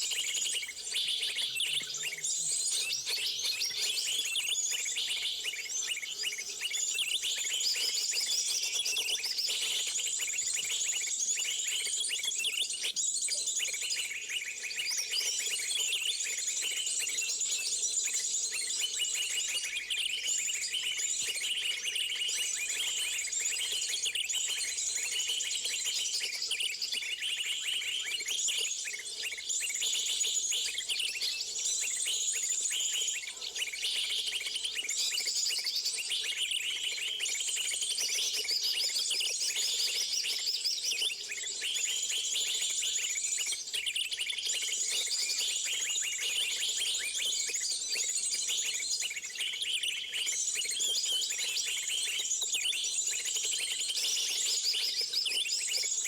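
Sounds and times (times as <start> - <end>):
small birds chirping in chorus: 0.0 - 56.0.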